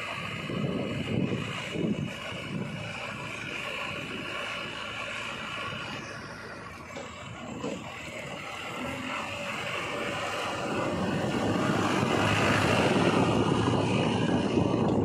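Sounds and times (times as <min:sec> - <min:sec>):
backhoe diesel engine running: 0:00.0 - 0:15.0.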